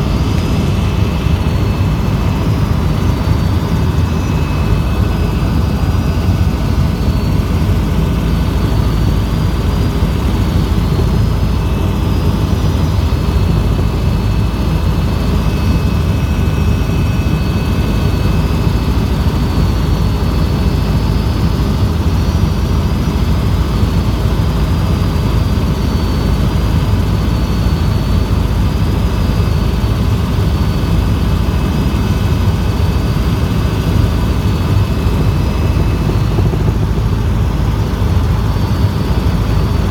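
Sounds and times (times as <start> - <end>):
faint high whine: 0.0 - 23.5, 24.4 - 39.9
helicopter rotor and engine noise: 0.0 - 39.9.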